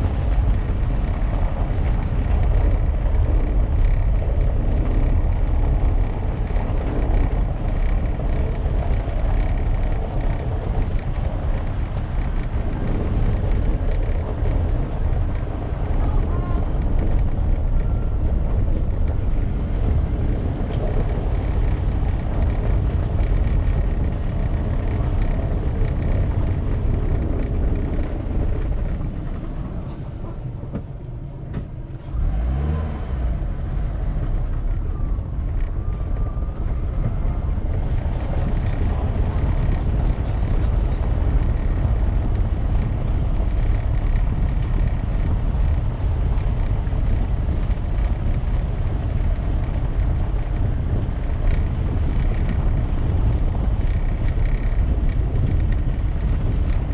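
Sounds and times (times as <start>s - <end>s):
car driving on cobblestones: 0.0s - 56.9s.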